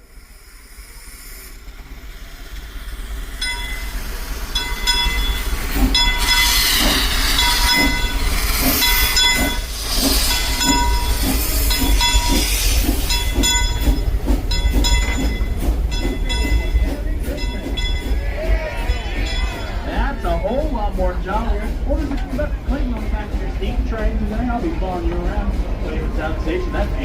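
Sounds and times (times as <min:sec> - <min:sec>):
steam train rhythmic beat: 0:02.3 - 0:27.0.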